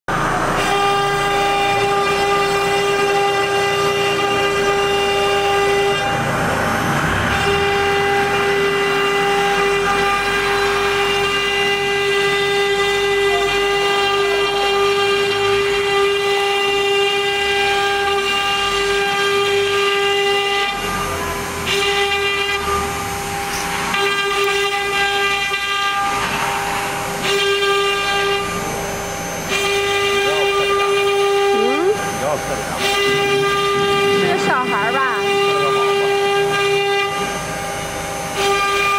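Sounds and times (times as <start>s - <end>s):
router spindle whine: 0.1s - 38.9s
bit cutting into wood: 0.7s - 38.9s.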